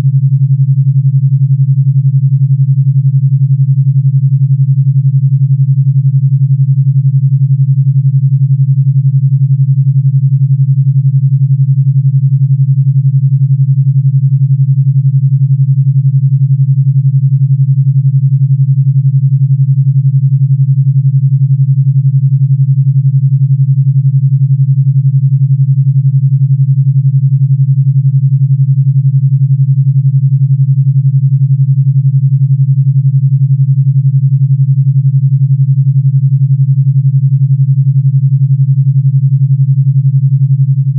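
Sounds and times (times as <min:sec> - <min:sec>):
pulsing low synthesised tone: 0:00.0 - 0:40.9.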